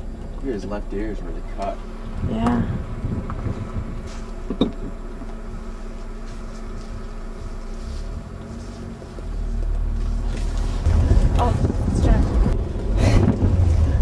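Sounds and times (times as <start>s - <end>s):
car engine idling: 0.0s - 14.0s
low rumble: 0.0s - 14.0s.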